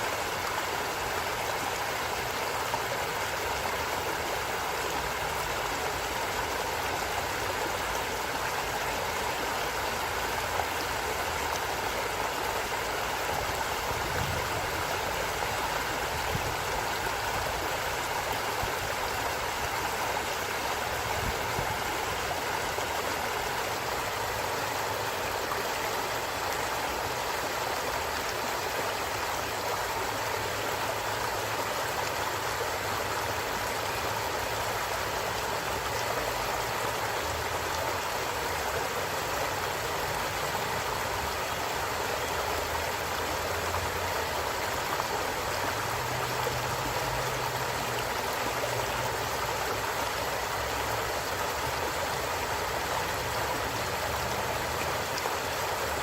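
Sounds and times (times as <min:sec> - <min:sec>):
creek flowing over rocks: 0:00.0 - 0:56.0.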